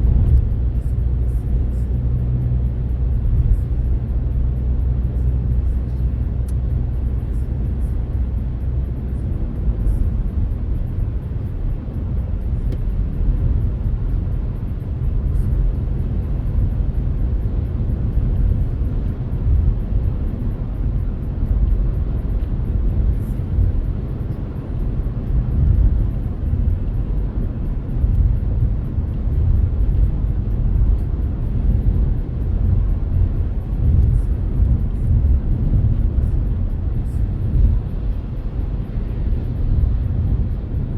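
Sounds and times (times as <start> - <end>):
car driving road noise: 0.0 - 40.9.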